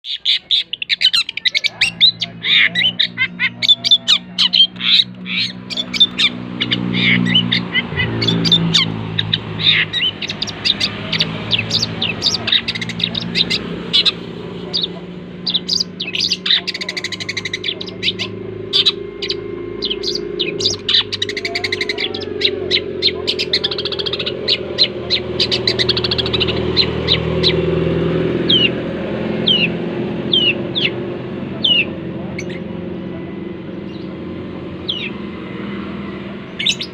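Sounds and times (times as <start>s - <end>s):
shrike chattering and squawking: 0.0s - 32.9s, 34.8s - 35.2s, 36.6s - 36.9s
steady low hum: 1.6s - 36.9s.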